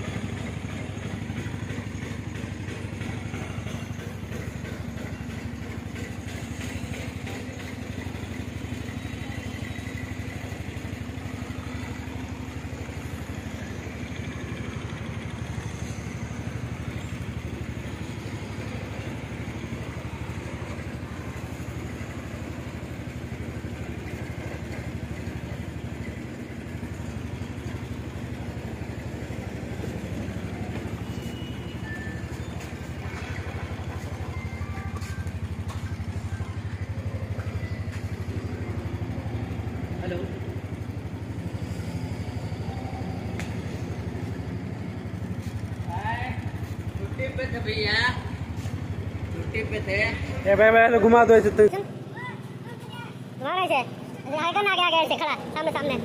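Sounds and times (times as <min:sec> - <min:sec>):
engine running with low hum: 0:00.0 - 0:56.0.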